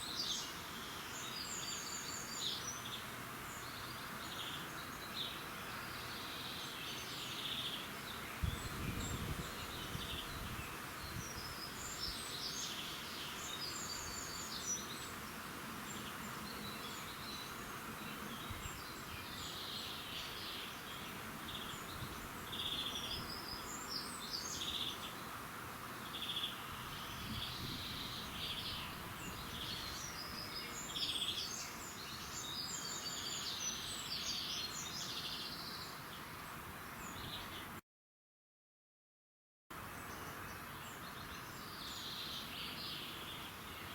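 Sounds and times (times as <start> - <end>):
small birds chirping and trilling: 0.0 - 37.8, 40.0 - 43.9
steady background hiss: 0.0 - 37.8, 39.8 - 43.9.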